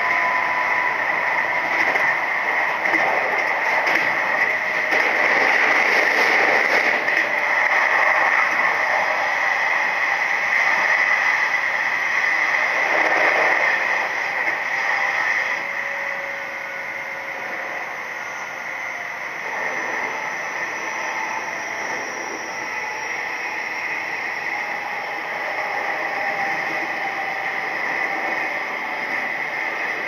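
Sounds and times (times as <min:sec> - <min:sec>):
electric train running: 0:00.0 - 0:30.0.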